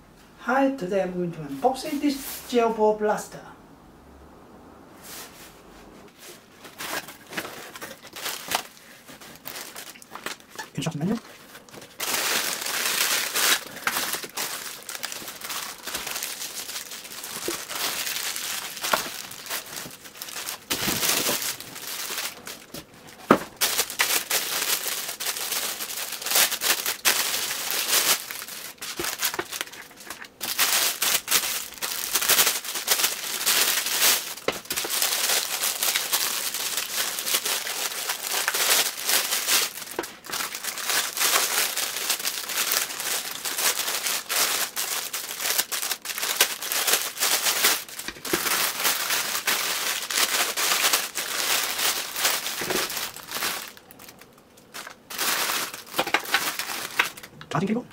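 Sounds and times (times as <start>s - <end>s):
plastic bags crinkling: 6.1s - 57.8s.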